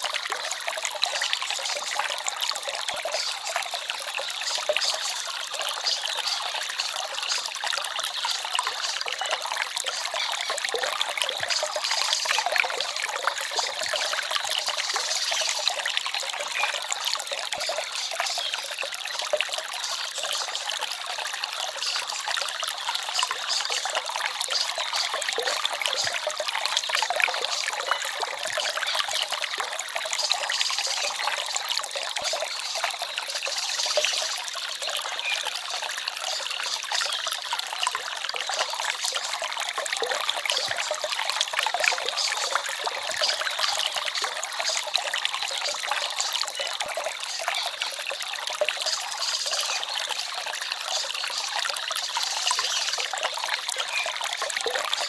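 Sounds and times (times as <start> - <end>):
stream trickling and babbling: 0.0 - 55.0.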